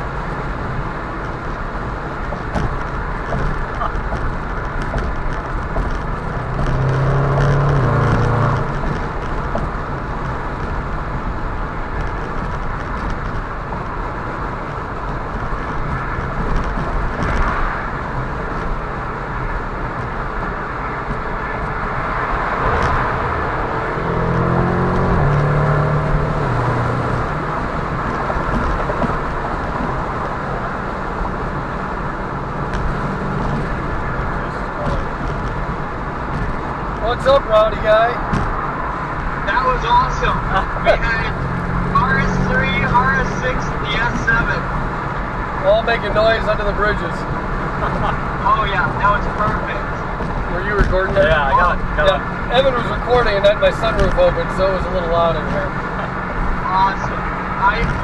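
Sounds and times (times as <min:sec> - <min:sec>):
car engines accelerating hard: 0:00.0 - 0:58.0
road and wind noise in car: 0:00.0 - 0:58.0.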